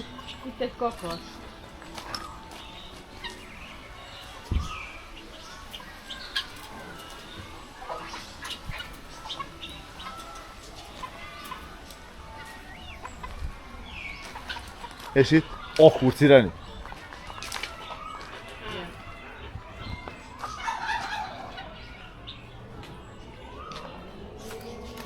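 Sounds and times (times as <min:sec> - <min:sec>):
bird calls and chirps: 0:00.0 - 0:25.0
chicken clucking: 0:00.0 - 0:25.0.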